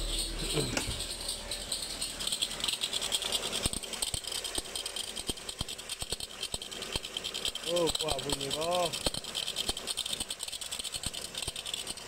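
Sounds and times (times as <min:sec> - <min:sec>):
car engine running: 0:00.0 - 0:12.0
fast engine rattle: 0:00.0 - 0:12.0.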